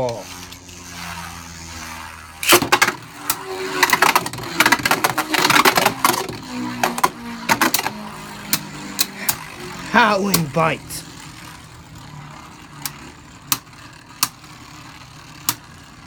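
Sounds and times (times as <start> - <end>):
spinning top launch: 0.0 - 16.0
spinning tops whirring: 0.0 - 16.0.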